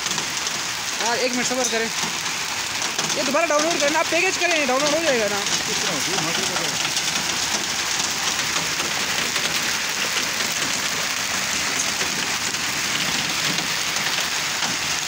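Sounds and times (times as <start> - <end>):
heavy rain splashing: 0.0 - 15.0.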